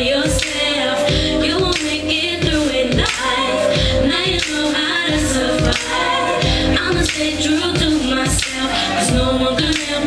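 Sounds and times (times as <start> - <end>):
drum beat with cymbals: 0.0 - 10.0
woman singing into a microphone: 0.0 - 10.0.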